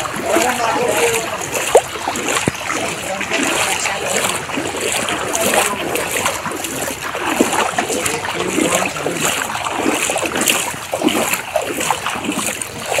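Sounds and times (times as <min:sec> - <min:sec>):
wading through water: 0:00.0 - 0:13.0.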